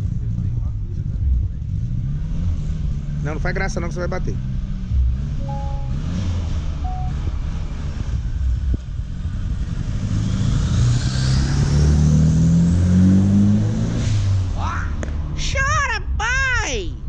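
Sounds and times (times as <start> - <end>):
car engine accelerating: 0.0 - 15.4.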